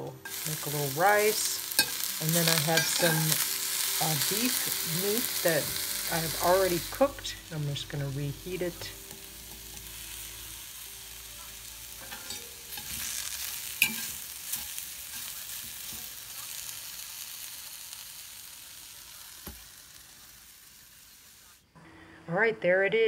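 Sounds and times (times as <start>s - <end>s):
stir fry sizzling in a skillet: 0.0s - 21.7s.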